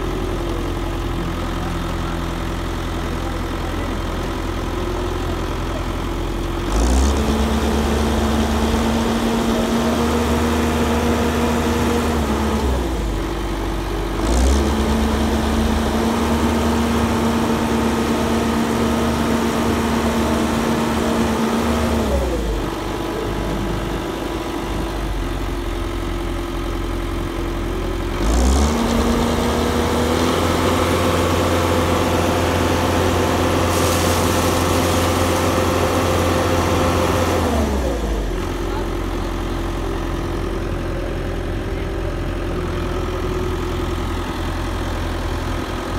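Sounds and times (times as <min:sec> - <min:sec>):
concrete mixer engine revving: 0:00.0 - 0:45.9.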